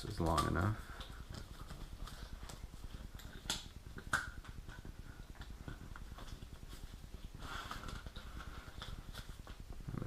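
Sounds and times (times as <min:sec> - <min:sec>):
wires rustling and clicking: 0:00.0 - 0:10.0.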